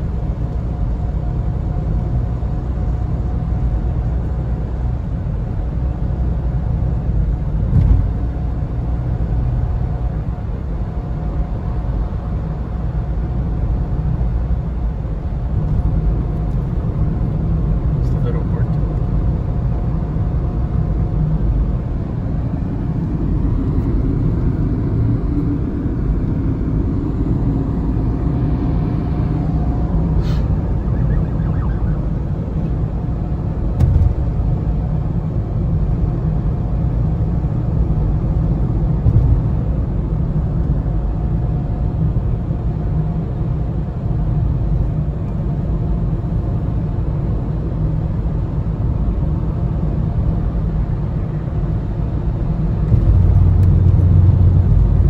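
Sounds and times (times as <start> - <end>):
road and engine noise in car: 0.0 - 55.0.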